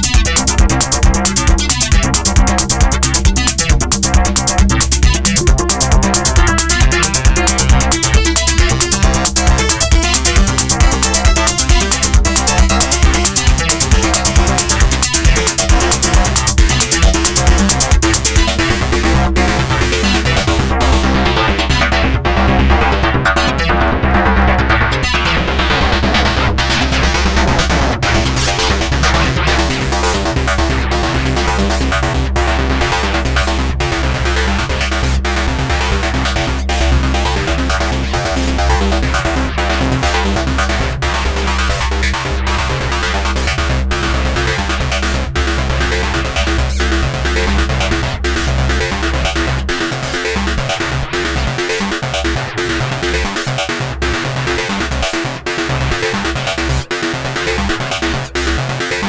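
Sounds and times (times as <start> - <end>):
deep bass: 0.0 - 59.0
synthesizer electronic sequence: 0.0 - 59.0.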